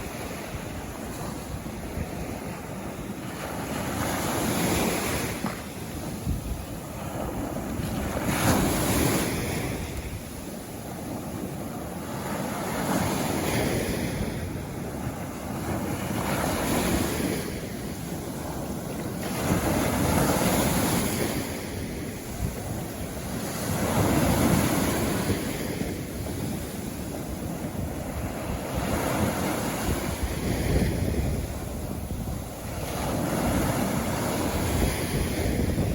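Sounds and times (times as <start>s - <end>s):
sea waves breaking on a beach: 0.0s - 35.9s.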